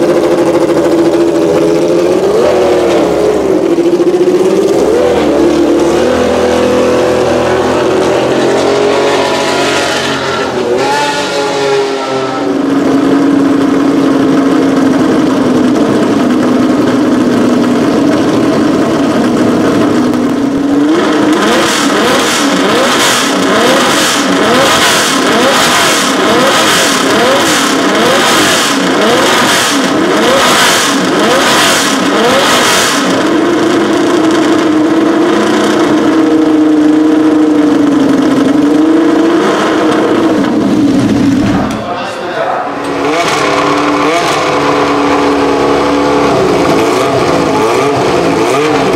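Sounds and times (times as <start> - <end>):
race car engine idling and revving: 0.0 - 48.9.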